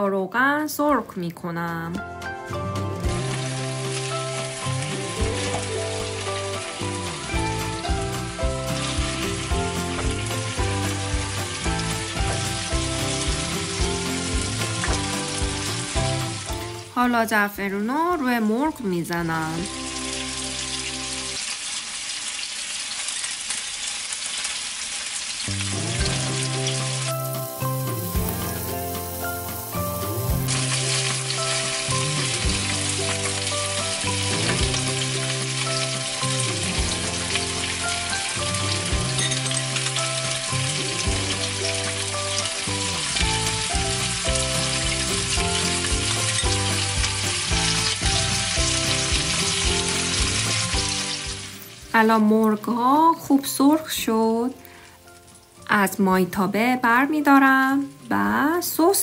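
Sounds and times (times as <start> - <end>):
background music: 0.0 - 21.5, 25.5 - 59.0
chicken sizzling in frying pan: 3.0 - 17.0, 19.2 - 54.0.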